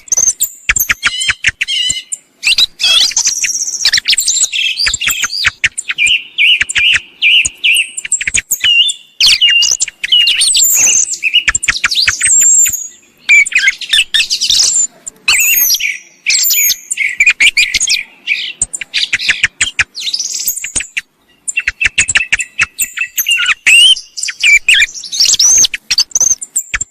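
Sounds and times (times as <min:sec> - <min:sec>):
thrush song and calls: 0:00.0 - 0:26.9.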